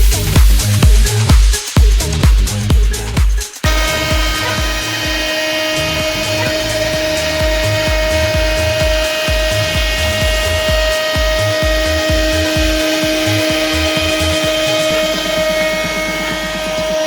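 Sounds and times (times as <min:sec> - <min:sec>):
milling spindle whine: 0:00.0 - 0:17.0
music with pulsing bass: 0:00.0 - 0:17.0.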